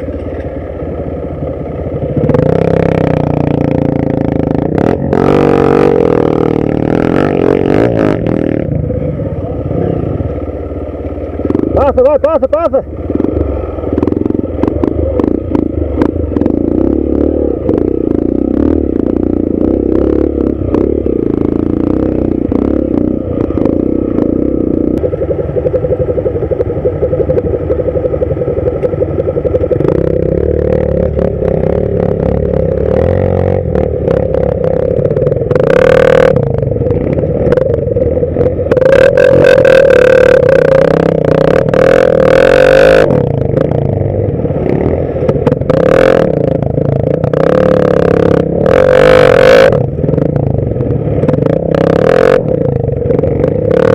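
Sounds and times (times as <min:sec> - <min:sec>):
dirt bike engine revving: 0:02.1 - 0:10.6, 0:11.4 - 0:53.9.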